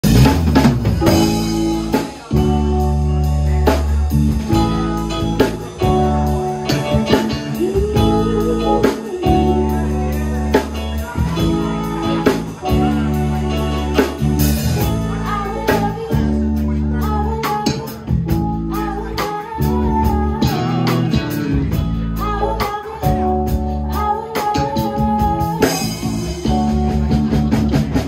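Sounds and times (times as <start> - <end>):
bass: 0.0 - 28.0
keyboard chords: 0.0 - 28.0.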